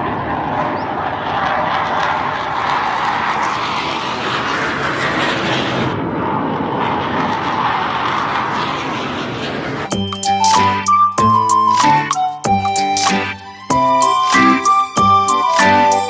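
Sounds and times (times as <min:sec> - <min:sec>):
aircraft engine drone: 0:00.0 - 0:16.0.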